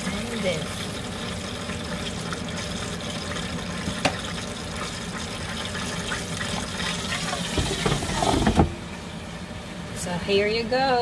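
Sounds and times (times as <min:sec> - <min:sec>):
air fryer hissing: 0:00.0 - 0:09.4.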